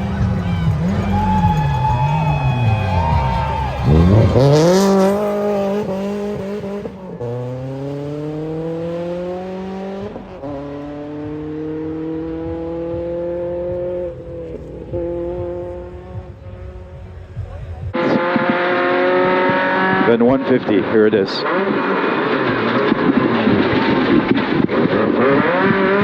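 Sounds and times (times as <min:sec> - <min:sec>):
rally car engine accelerating: 0:00.0 - 0:26.0.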